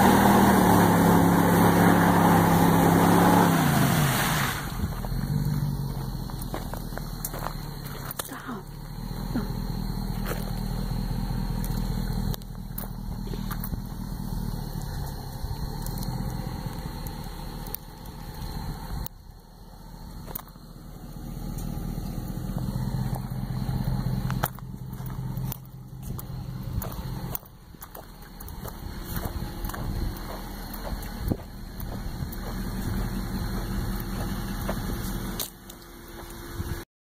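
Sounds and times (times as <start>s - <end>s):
truck engine revving: 0.0s - 36.8s.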